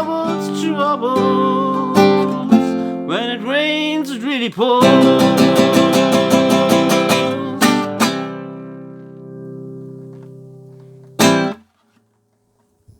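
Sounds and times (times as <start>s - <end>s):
acoustic guitar strumming: 0.0s - 11.7s.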